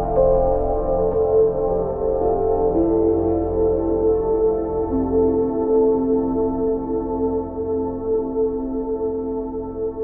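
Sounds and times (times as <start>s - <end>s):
ambient drone music: 0.0s - 10.0s.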